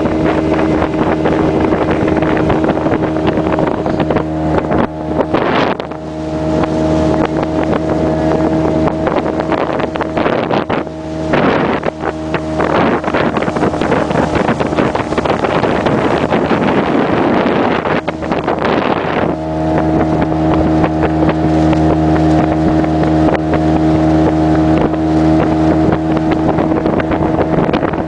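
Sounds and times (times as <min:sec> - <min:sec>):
motorboat engine running: 0:00.0 - 0:28.0
rushing water: 0:00.0 - 0:28.0
wind buffeting microphone: 0:00.0 - 0:28.0.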